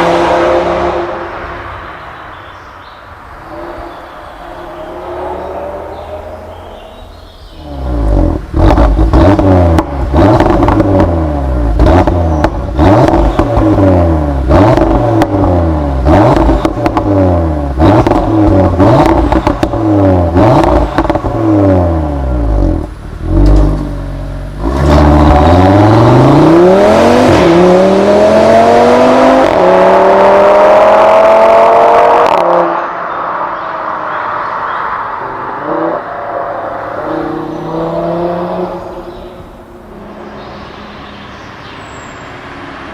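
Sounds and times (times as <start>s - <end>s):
car engine revving: 0.0s - 2.4s, 3.1s - 42.9s.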